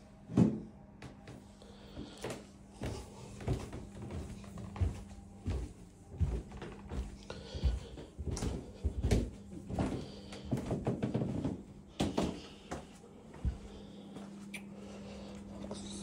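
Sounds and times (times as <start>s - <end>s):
footsteps on carpeted stairs: 1.0s - 14.4s.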